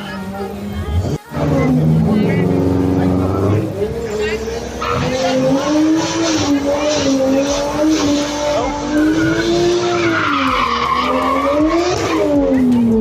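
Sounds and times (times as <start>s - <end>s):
car engine revving high: 0.2s - 13.0s
tyres screeching: 1.4s - 12.4s.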